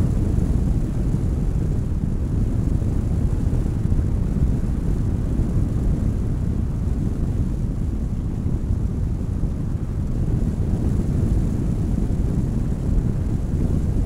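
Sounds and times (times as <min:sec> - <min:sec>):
wind buffeting and road noise: 0:00.0 - 0:14.0.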